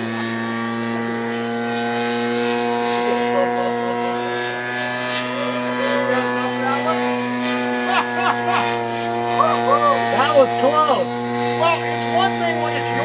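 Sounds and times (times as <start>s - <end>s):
model airplane engine drone: 0.0s - 13.0s.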